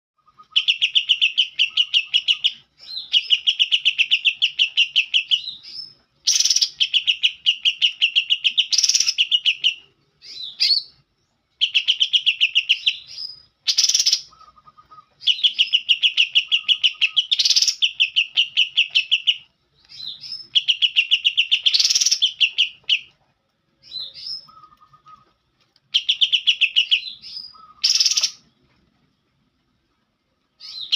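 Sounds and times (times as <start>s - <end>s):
bird singing fast trills: 0.2s - 10.9s, 11.6s - 23.1s, 25.9s - 28.5s, 30.6s - 30.9s.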